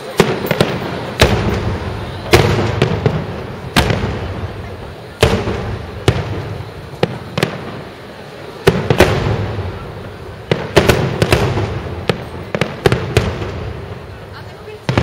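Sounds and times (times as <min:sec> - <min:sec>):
fireworks bangs with echo: 0:00.0 - 0:15.0.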